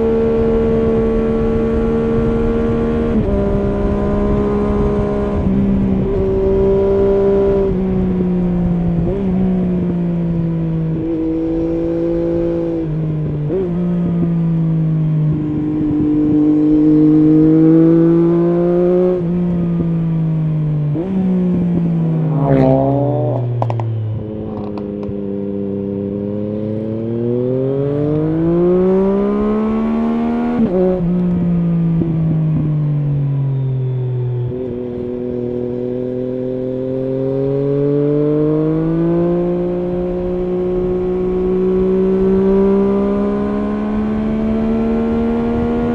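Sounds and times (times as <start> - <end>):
motorcycle engine: 0.0 - 45.9.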